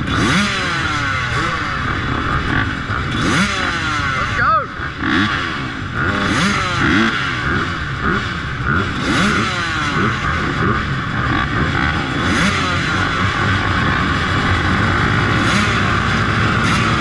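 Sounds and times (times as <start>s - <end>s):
dirt bike engines idling and revving: 0.0s - 17.0s.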